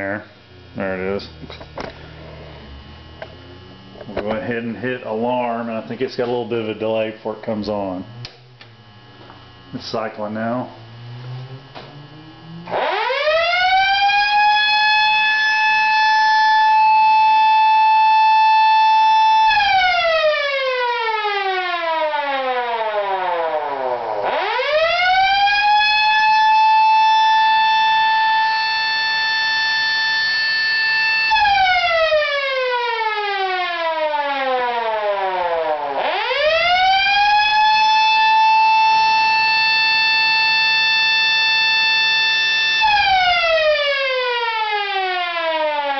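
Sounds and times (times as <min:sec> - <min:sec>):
electric siren wailing: 0:00.0 - 0:04.4, 0:05.0 - 0:45.9.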